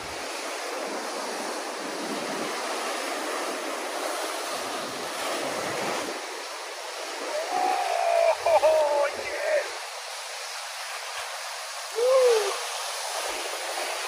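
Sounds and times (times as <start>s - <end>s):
waves washing over rocks: 0.0s - 14.0s.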